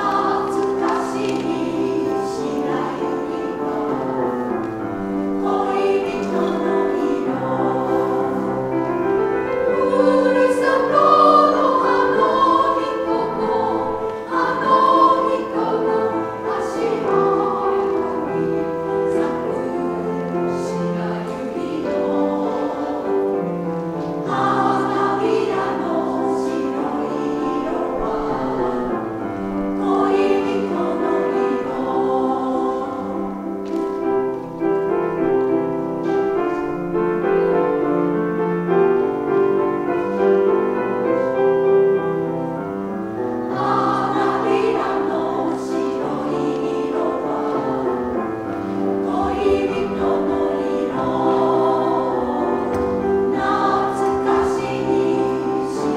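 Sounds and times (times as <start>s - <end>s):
grand piano: 0.0s - 55.9s
women's choir singing: 0.0s - 55.9s.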